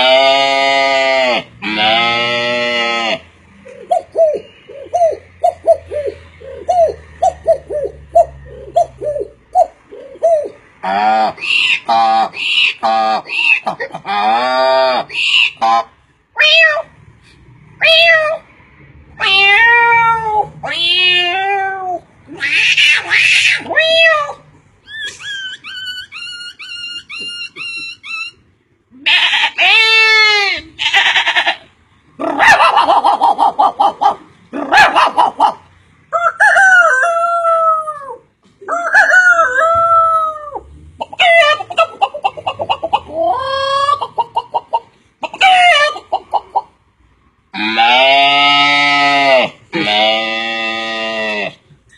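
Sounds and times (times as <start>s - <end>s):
animal calls: 0.0s - 17.0s, 19.1s - 46.8s, 47.5s - 51.9s.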